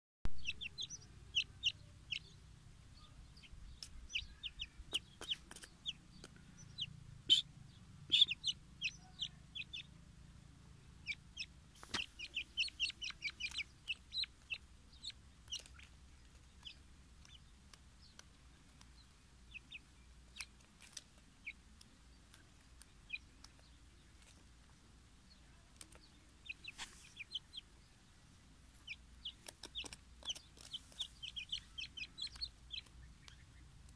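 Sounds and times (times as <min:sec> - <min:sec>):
young bird peeping: 0:00.3 - 0:33.9.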